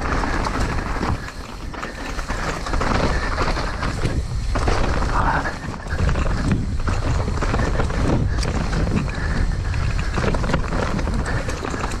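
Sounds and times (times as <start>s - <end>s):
bike knocking and rattling: 0.0s - 12.0s
tyres rumbling on dirt: 0.0s - 12.0s
wind rushing over microphone: 0.0s - 12.0s.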